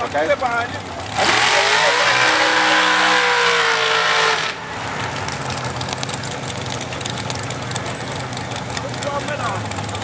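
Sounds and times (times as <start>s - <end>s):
big engine idling roughly: 0.0s - 10.0s
race car engine at full throttle: 0.0s - 10.0s.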